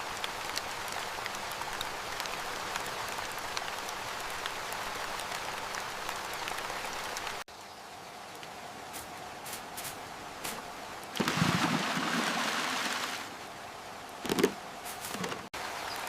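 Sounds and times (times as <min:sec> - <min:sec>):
quieter smooth hiss: 0:00.0 - 0:16.0
steady rain falling: 0:00.0 - 0:16.0.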